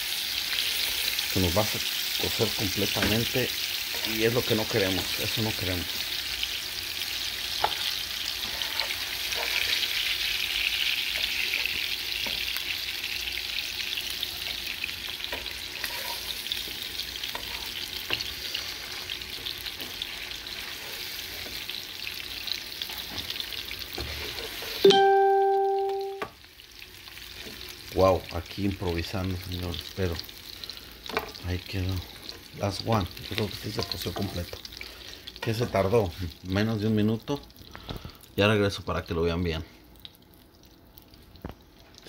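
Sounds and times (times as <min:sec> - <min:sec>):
fish sizzling in frying pan: 0:00.0 - 0:38.4.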